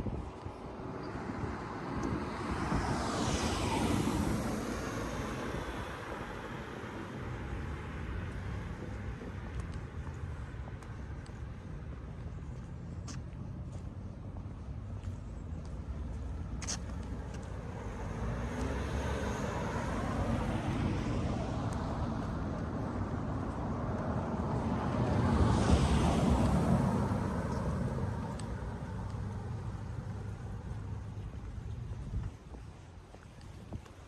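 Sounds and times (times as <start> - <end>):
car passing: 0.6 - 11.2, 15.8 - 33.4.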